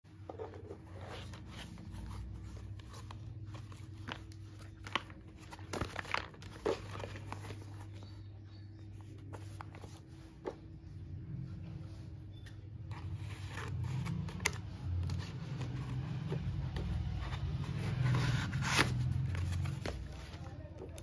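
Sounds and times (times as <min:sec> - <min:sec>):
cardboard parcel being handled: 0:00.1 - 0:10.9, 0:12.9 - 0:21.0.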